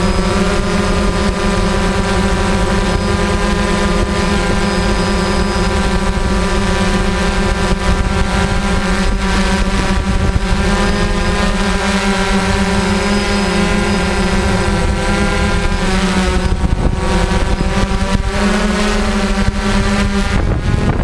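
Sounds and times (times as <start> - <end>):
drone propellers whining: 0.0 - 21.0
wind on microphone: 0.0 - 21.0.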